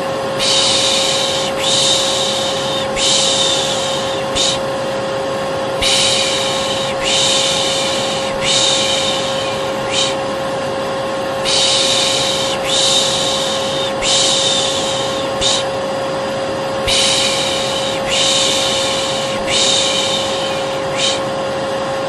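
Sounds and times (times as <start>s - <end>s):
vacuum cleaner running: 0.0s - 22.0s
person shushing: 0.4s - 4.7s, 5.7s - 10.3s, 11.4s - 15.8s, 16.8s - 21.4s.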